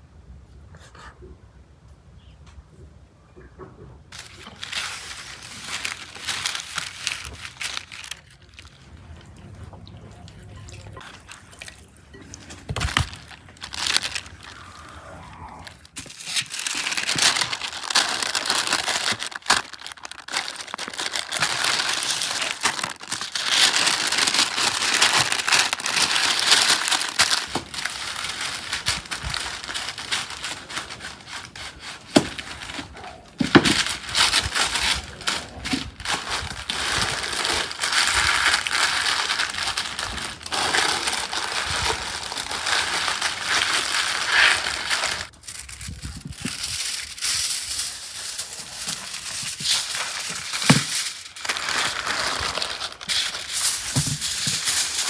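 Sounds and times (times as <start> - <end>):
parchment paper crinkling: 4.1 - 55.0.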